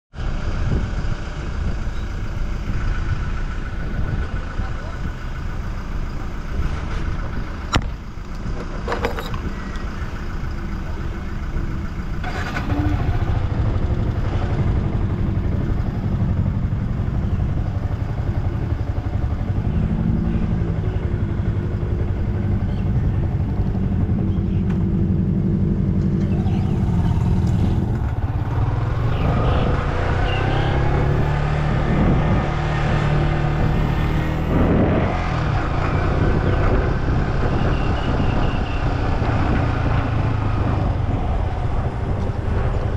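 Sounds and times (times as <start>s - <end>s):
road noise: 0.1s - 42.9s
wind noise: 0.2s - 5.3s, 12.2s - 42.9s
motorcycle engine running: 0.2s - 42.9s.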